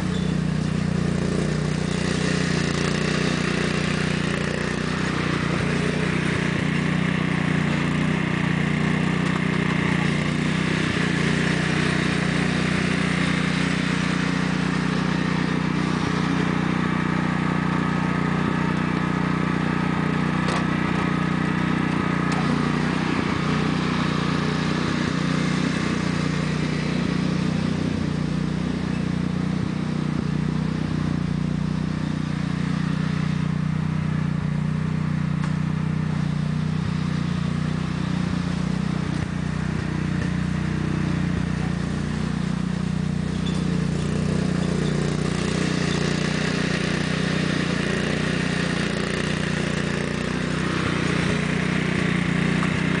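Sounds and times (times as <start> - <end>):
lawn tractor engine running: 0.0 - 53.0.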